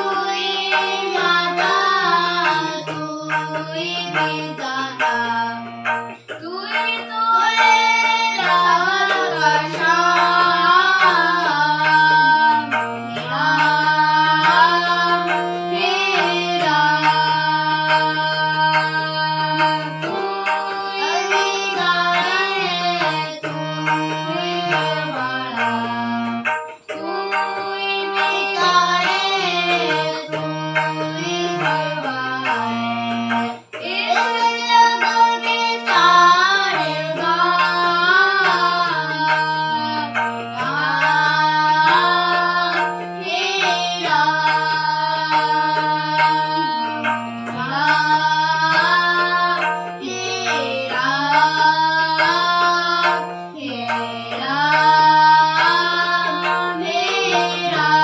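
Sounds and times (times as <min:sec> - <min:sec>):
children singing: 0:00.0 - 0:58.0
harmonium chords: 0:00.0 - 0:58.0
tabla rhythm: 0:00.0 - 0:58.0.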